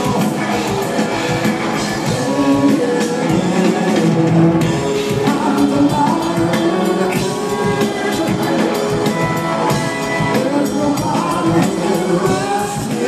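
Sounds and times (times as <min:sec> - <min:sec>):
drum kit: 0:00.0 - 0:13.0
electric bass: 0:00.0 - 0:13.0
electric guitar: 0:00.0 - 0:13.0.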